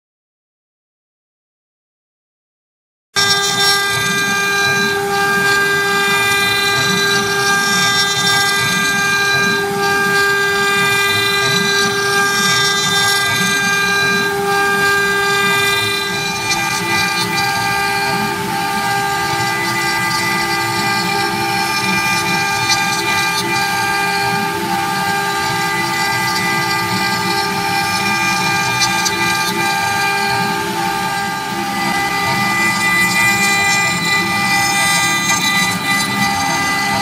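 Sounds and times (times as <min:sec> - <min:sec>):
bit cutting into wood: 0:03.2 - 0:37.0
router spindle whining: 0:03.2 - 0:37.0.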